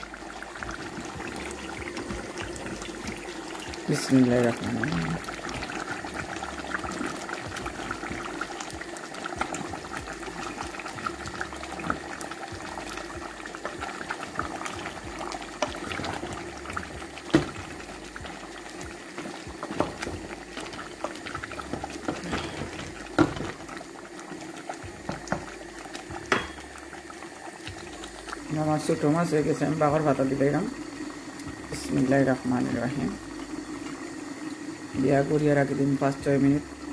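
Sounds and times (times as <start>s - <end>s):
curry bubbling in a pot: 0.0s - 36.9s.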